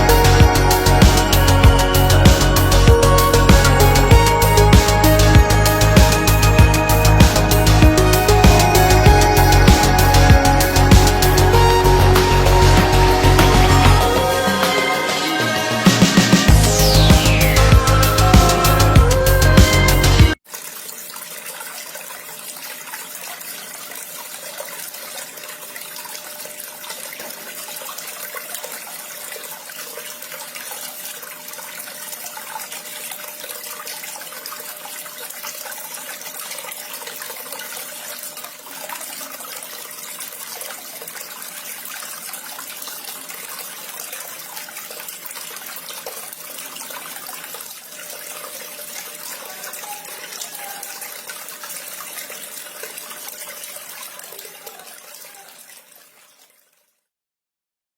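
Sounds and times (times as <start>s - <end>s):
water splashing down waterfall: 0.0s - 56.2s.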